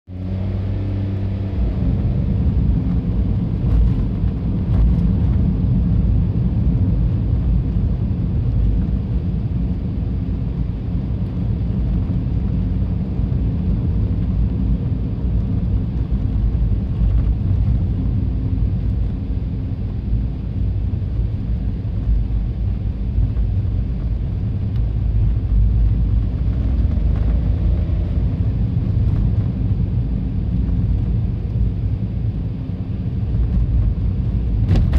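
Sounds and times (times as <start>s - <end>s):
car engine rumble: 0.1s - 34.9s
road noise inside car: 0.1s - 34.9s.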